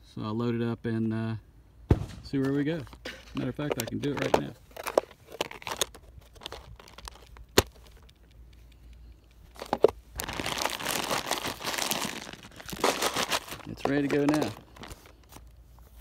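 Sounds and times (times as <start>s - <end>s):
crinkling rustling: 2.4s - 8.8s, 9.4s - 16.0s.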